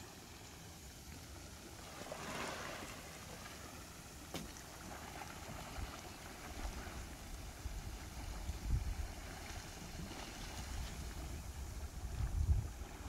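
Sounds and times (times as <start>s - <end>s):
soft even hiss: 0.0s - 13.0s
wind rumbling on microphone: 1.8s - 13.0s.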